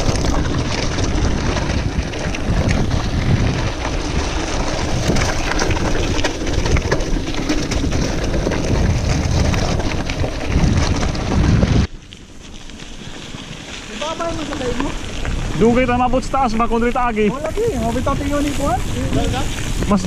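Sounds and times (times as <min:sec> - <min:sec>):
wind buffeting microphone: 0:00.0 - 0:12.0, 0:12.8 - 0:20.0
bike clicking and rattling: 0:00.0 - 0:20.0
tyres crunching over stones: 0:00.0 - 0:20.0.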